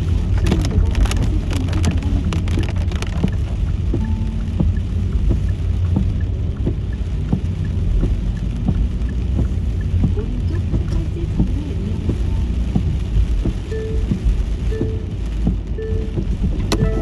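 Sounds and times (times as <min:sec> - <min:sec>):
car engine and road rumble: 0:00.0 - 0:17.0
raindrops pattering on car: 0:00.0 - 0:17.0
faint regular tick: 0:00.2 - 0:16.8.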